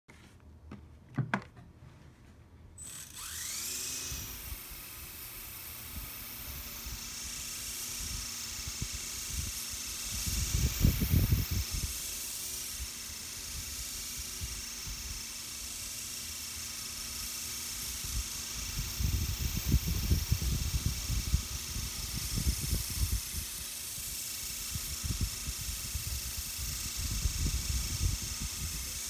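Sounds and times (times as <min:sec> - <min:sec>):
rc helicopter motor whirring: 0:02.8 - 0:29.0.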